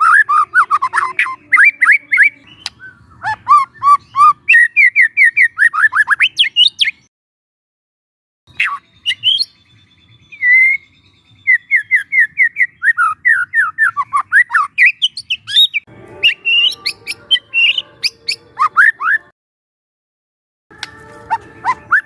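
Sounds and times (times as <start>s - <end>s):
bird singing whistled notes: 0.0s - 7.1s, 8.5s - 19.3s, 20.8s - 22.0s
overlapping birdsong: 0.0s - 7.1s, 8.5s - 19.3s, 20.7s - 22.0s.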